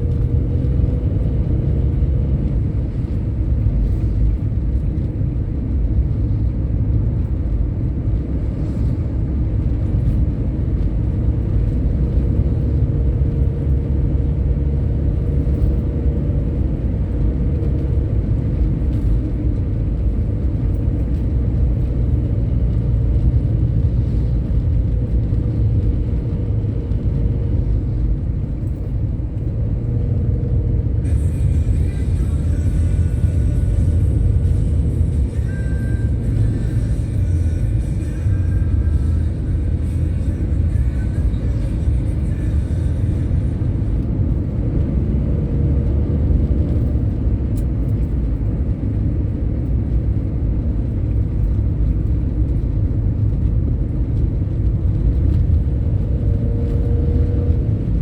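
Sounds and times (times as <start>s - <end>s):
moving bus rumble: 0.0s - 58.0s.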